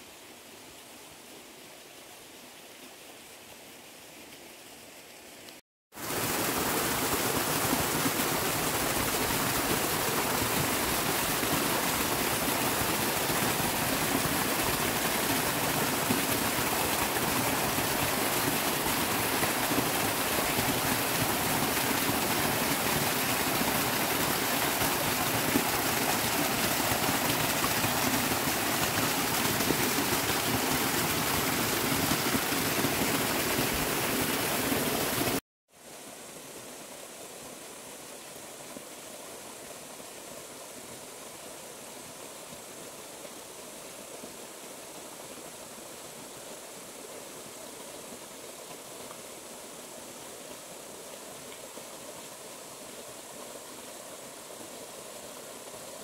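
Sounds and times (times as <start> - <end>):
water rushing: 5.9 - 56.0.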